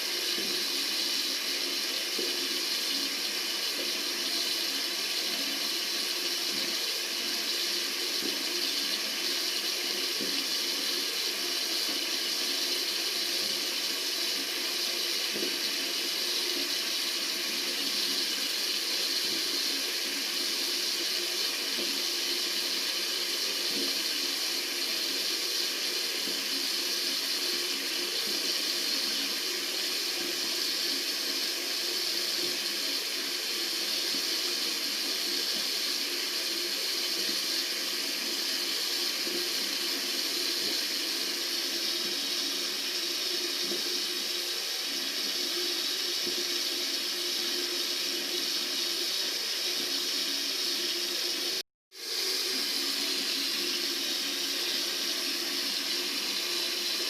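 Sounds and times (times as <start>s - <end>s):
water running from a tap: 0.0s - 57.0s.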